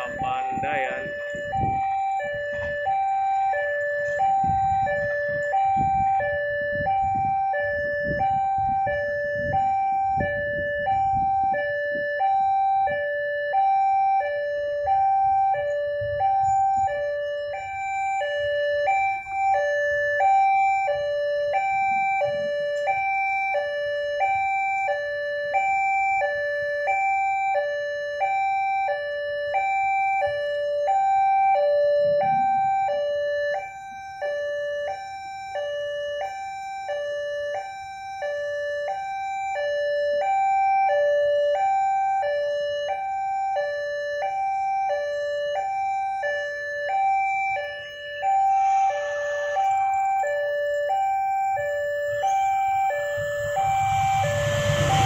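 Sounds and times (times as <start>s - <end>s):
two-tone crossing alarm: 0.0s - 55.0s.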